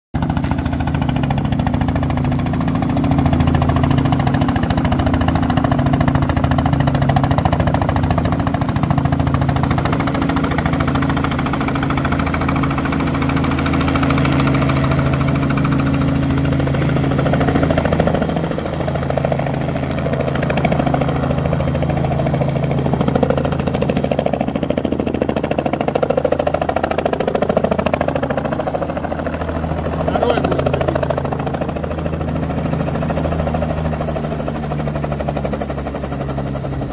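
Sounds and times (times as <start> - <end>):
helicopter engine and rotor: 0.2 - 36.9.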